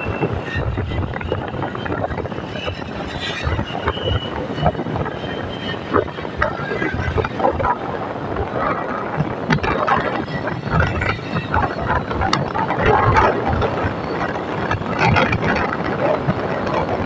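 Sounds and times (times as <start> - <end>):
road and wind noise: 0.0 - 17.0
vehicle rattles and knocks: 0.0 - 17.0.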